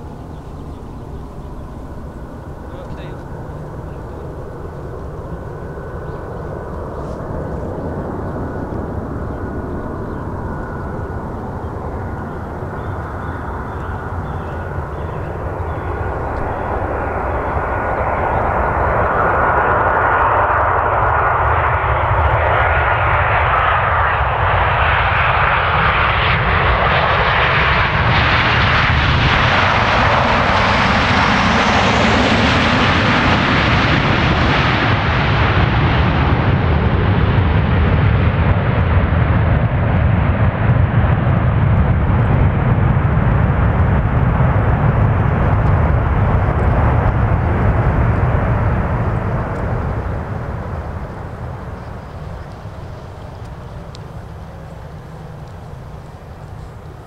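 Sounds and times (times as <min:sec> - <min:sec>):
deep rumble: 0:00.0 - 0:57.0
jet engines roaring: 0:00.0 - 0:57.0.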